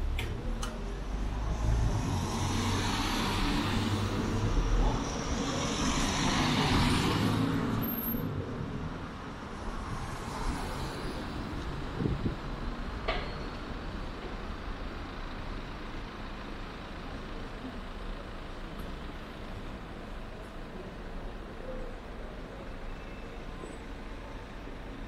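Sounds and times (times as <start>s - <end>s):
low rumble of city traffic: 0.0s - 25.0s.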